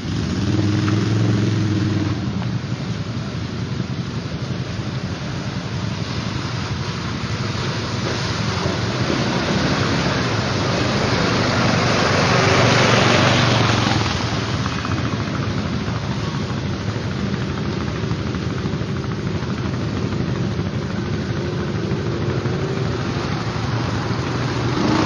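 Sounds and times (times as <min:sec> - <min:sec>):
quad bike engine: 0:00.0 - 0:25.0
wheels churning through water: 0:00.0 - 0:25.0.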